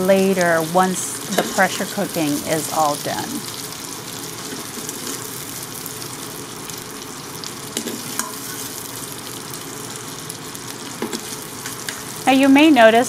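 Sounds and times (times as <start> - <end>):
sausage sizzling in oil: 0.0 - 13.0.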